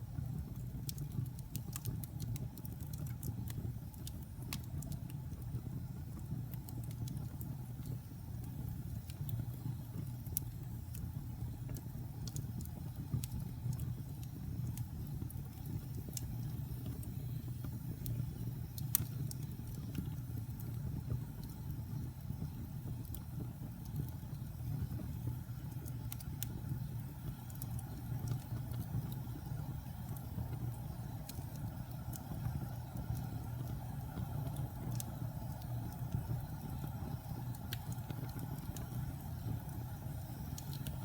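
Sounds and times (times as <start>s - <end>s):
wood fire burning: 0.0s - 41.0s.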